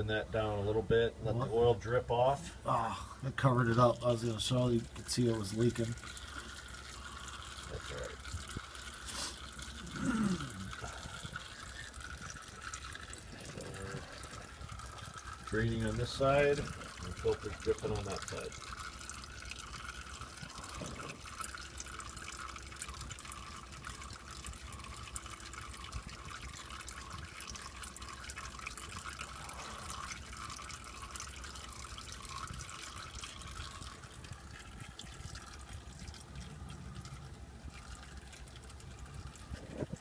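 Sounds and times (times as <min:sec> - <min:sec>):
oil dripping: 0:00.0 - 0:40.0
oil trickling into drain pan: 0:00.0 - 0:40.0.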